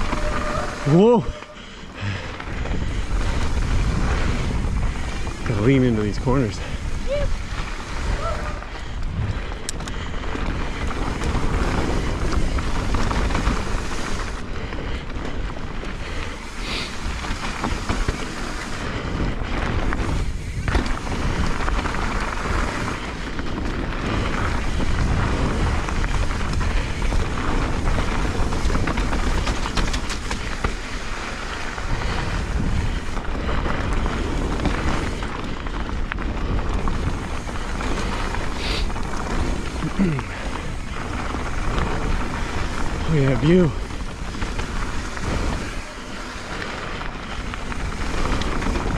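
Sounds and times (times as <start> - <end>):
bike tyres rattling over mud: 0.0 - 48.9
wind on microphone: 0.0 - 48.9.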